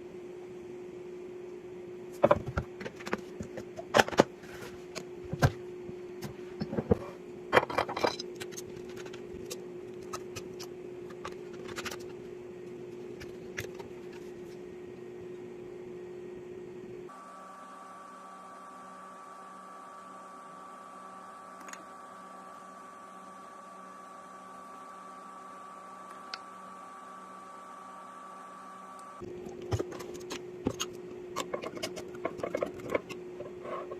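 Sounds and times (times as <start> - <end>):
higher steady hum: 0.0 - 33.9
steady low hum: 0.0 - 33.9.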